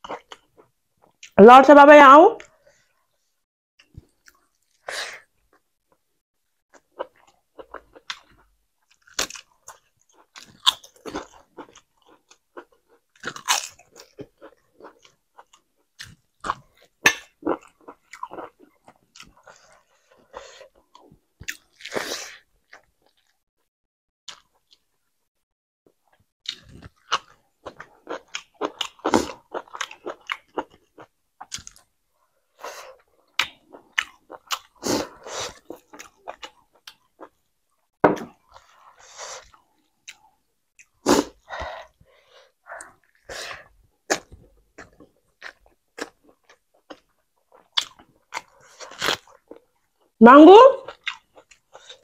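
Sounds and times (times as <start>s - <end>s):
person chewing food: 0.0s - 1.4s, 3.8s - 23.4s, 24.3s - 25.1s, 25.9s - 50.2s, 50.9s - 52.0s.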